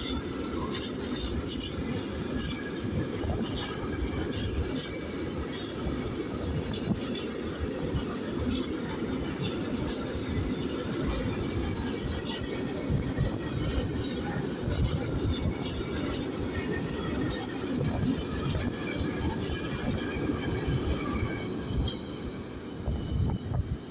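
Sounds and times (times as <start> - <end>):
steel wheels rumbling on rails: 0.0 - 23.9
wheels clicking over rail joints: 0.0 - 23.9.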